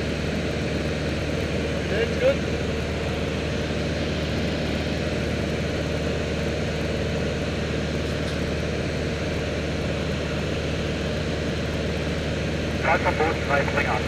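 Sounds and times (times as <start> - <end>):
airplane engine and propeller: 0.0 - 14.0.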